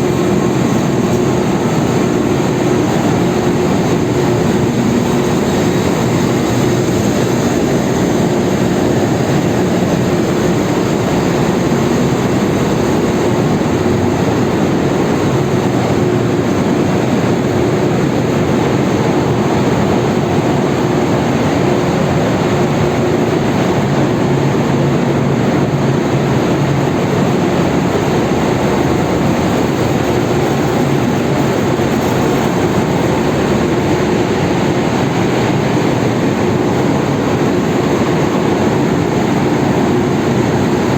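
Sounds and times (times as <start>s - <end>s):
engine room machinery din: 0.0s - 40.9s.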